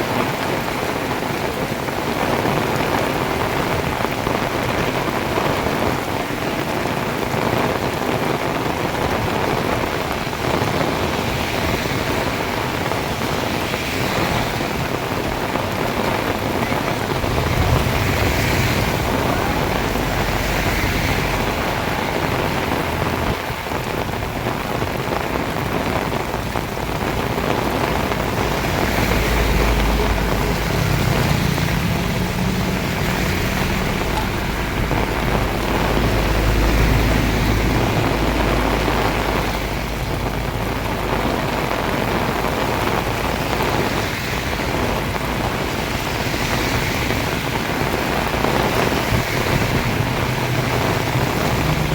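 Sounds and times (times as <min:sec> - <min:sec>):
heavy rain pouring: 0:00.0 - 0:51.9
low rumbling: 0:00.0 - 0:51.9.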